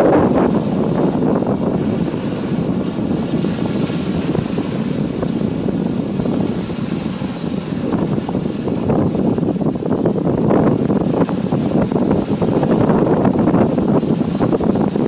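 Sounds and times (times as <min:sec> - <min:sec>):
small waves washing onto beach: 0:00.0 - 0:15.0
wind buffeting microphone: 0:00.0 - 0:15.0.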